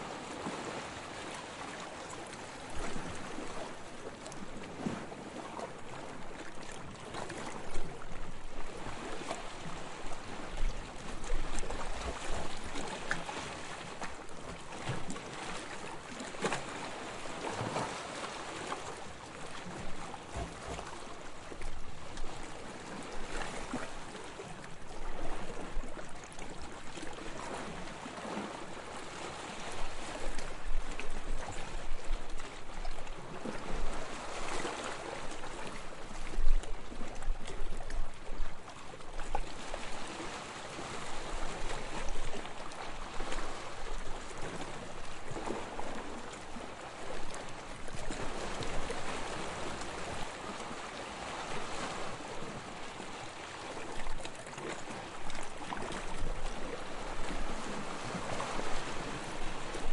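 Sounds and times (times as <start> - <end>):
small waves lapping and splashing: 0.0 - 59.9.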